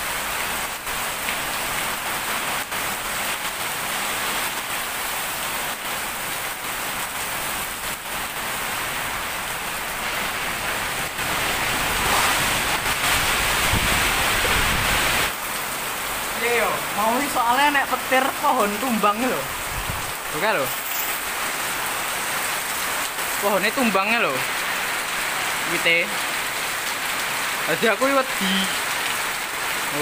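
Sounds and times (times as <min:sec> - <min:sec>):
heavy rain on road: 0:00.0 - 0:30.0
wind: 0:00.0 - 0:30.0.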